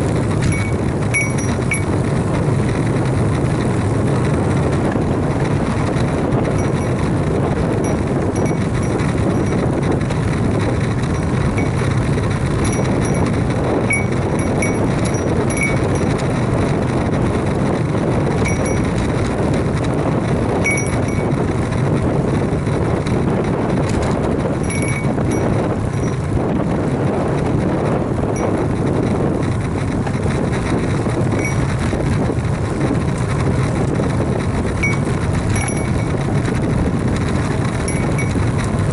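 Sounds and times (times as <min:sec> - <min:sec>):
tyres rolling on asphalt: 0:00.0 - 0:38.9
wind on microphone: 0:00.0 - 0:38.9.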